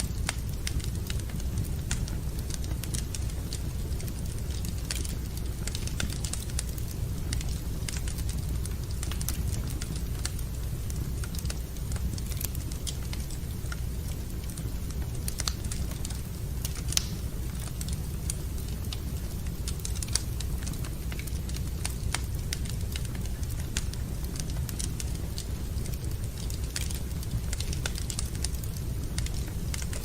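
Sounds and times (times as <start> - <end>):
fire snapping: 0.0 - 30.0
wood fire crackling: 0.0 - 30.0.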